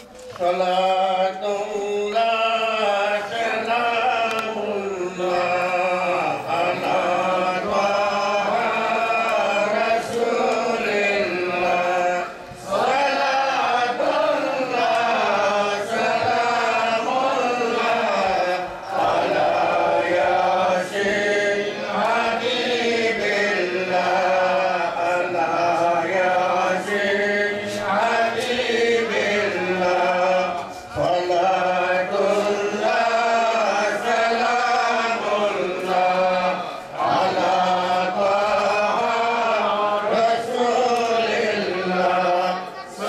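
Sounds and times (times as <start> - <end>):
man chanting into a microphone: 0.3 - 18.9, 19.5 - 42.9.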